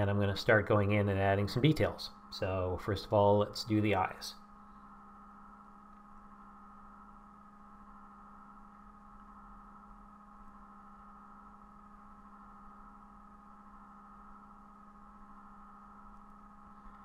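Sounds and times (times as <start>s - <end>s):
faint electrical hum: 0.0s - 17.0s
high steady whine: 0.0s - 17.0s.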